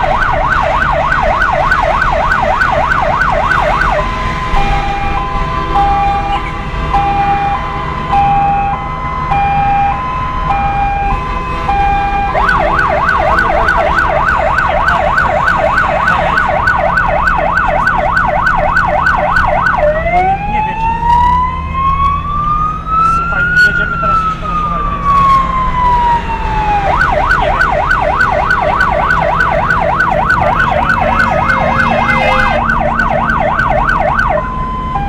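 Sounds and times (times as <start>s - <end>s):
siren: 0.0s - 35.0s
vehicle engine rumbling: 0.0s - 35.0s.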